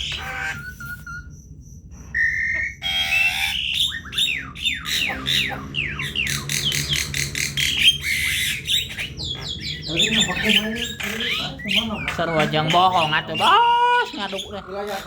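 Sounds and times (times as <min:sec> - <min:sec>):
bird whistling and squawking: 0:02.1 - 0:15.0.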